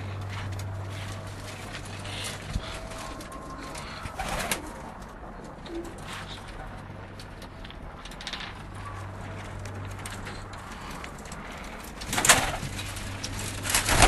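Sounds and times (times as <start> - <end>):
loud rustling: 0.0 - 14.0
pigeons cooing: 0.0 - 14.0.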